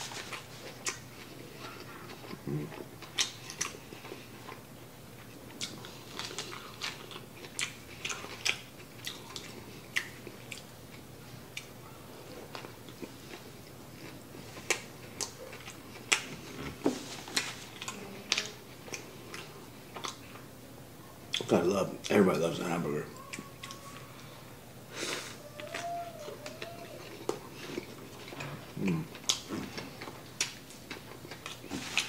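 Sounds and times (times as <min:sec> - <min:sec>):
man chewing food: 0:00.0 - 0:22.2, 0:23.2 - 0:32.0.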